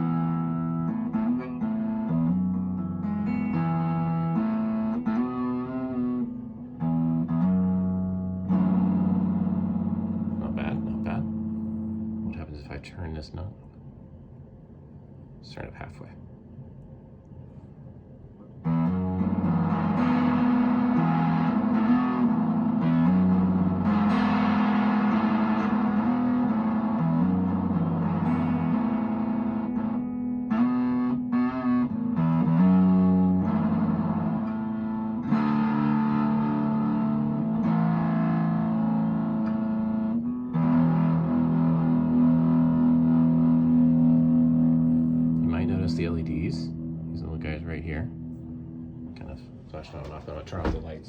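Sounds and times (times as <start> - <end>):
distorted electric guitar chords: 0.0 - 12.5, 18.6 - 49.3.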